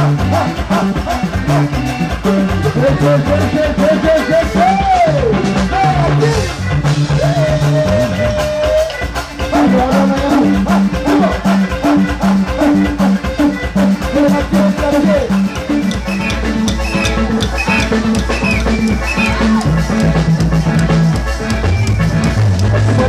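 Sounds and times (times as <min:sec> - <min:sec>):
person singing: 0:00.0 - 0:19.9
bass line: 0:00.0 - 0:23.0
drum kit beat: 0:00.0 - 0:23.0.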